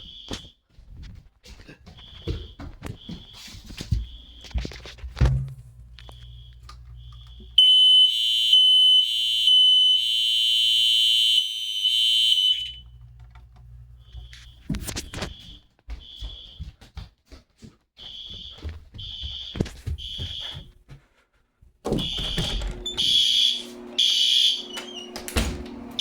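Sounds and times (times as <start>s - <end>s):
fire alarm horn steady tone: 0.0s - 0.6s, 1.9s - 5.0s, 5.8s - 16.7s, 18.0s - 20.7s, 21.9s - 26.0s
faint pulsing alarm horn: 1.9s - 16.7s, 18.0s - 20.7s, 21.9s - 26.0s.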